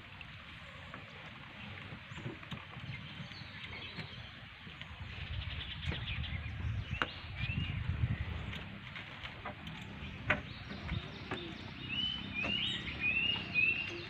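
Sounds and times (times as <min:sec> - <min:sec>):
low rumble of wind and water: 0:00.0 - 0:14.0
bird calls: 0:00.6 - 0:14.0.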